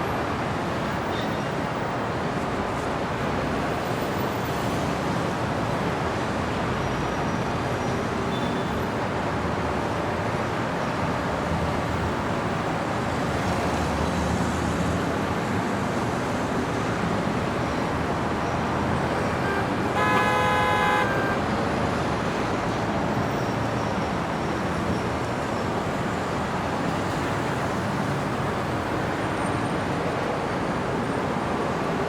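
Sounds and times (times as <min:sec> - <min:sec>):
cars passing: 0:02.6 - 0:32.0.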